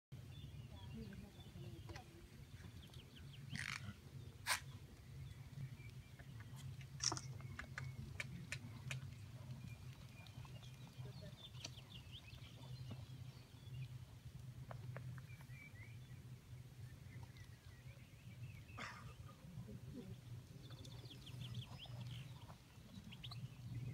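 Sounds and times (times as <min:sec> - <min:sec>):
small birds chirping: 0:00.2 - 0:23.9
steady low hum: 0:00.2 - 0:23.9.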